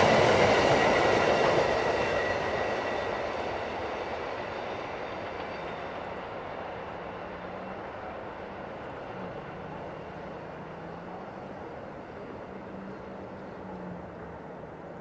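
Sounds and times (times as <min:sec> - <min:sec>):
passenger train rolling past: 0:00.0 - 0:15.0.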